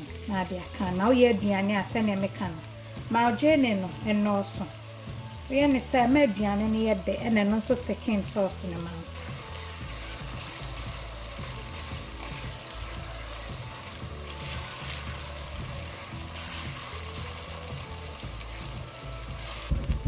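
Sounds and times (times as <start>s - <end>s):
onions sizzling in oil: 0.0s - 20.0s
soft background music: 0.0s - 20.0s.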